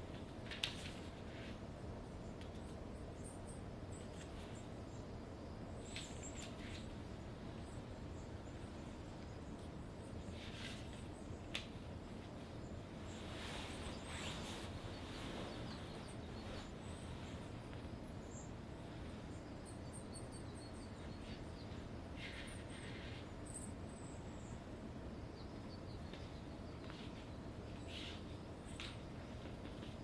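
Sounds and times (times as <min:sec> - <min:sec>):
low background hum: 0:00.0 - 0:30.0
small birds chirping: 0:00.1 - 0:30.0.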